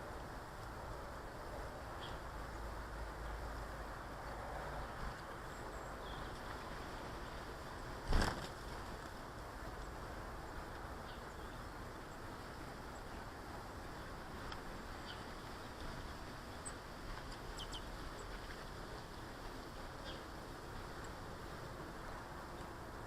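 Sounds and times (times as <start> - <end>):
steady background hiss: 0.0 - 23.0
small birds chirping: 1.8 - 7.4, 8.0 - 22.9.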